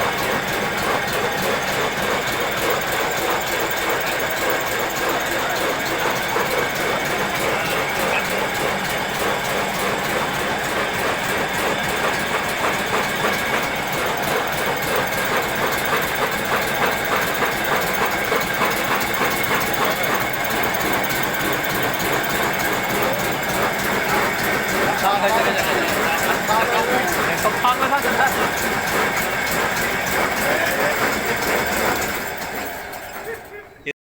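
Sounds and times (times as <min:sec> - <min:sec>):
tractor diesel engine chugging: 0:00.0 - 0:34.0.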